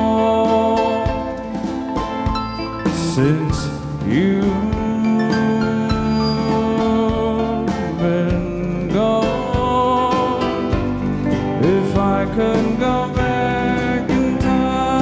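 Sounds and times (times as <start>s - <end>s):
man singing long notes: 0.0s - 1.6s, 2.8s - 15.0s
country band playing live: 0.0s - 15.0s.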